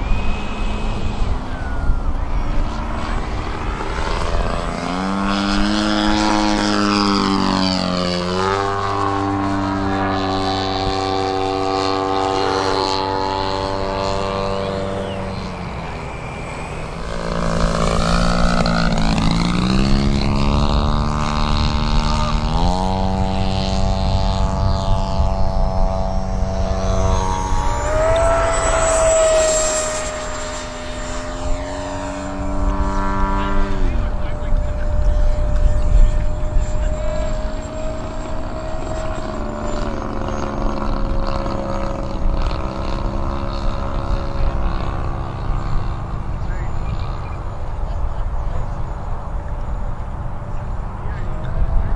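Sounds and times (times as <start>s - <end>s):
model plane engine flying: 0.0s - 51.9s.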